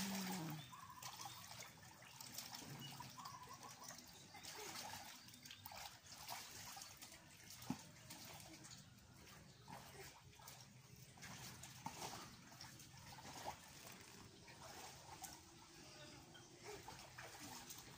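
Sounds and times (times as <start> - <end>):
water splashing and trickling: 0.0 - 17.9.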